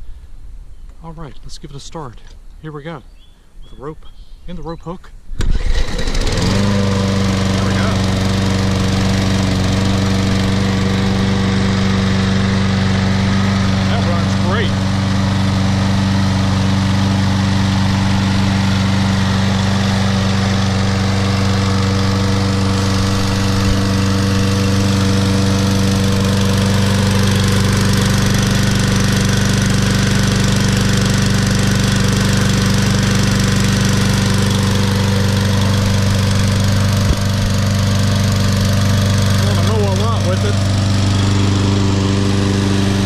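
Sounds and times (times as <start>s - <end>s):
lawn mower engine running: 5.4s - 43.0s.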